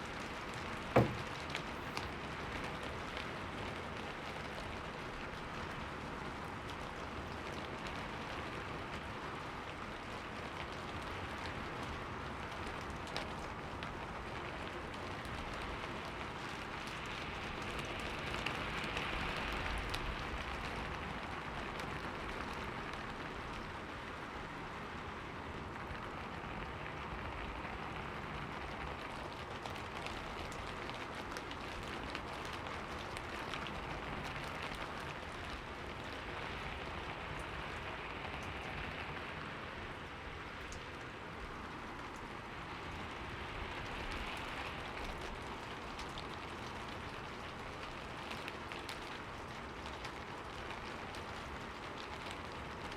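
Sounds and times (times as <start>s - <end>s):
rain pattering on surfaces: 0.0s - 52.9s.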